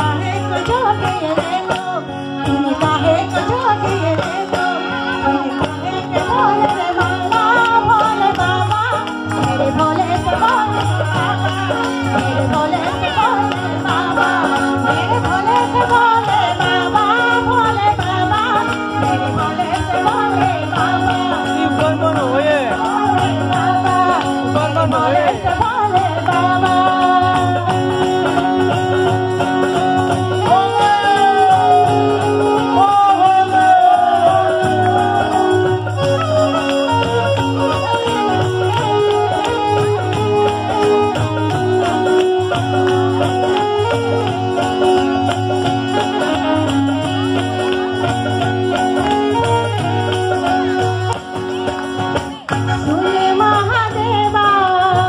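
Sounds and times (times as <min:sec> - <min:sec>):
keyboard: 0:00.0 - 0:55.0
tabla: 0:00.0 - 0:55.0
woman singing: 0:00.0 - 0:55.0.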